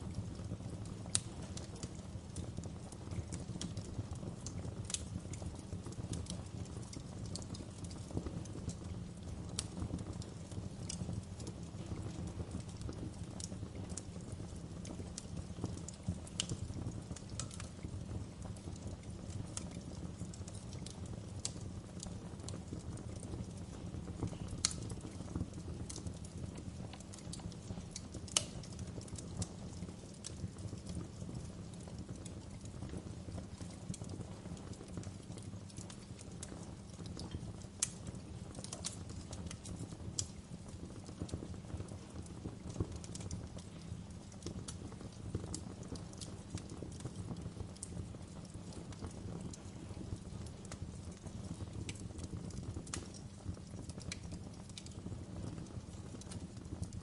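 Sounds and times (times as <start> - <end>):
fire crackling: 0.0 - 57.0
low rumble of flames: 0.0 - 57.0.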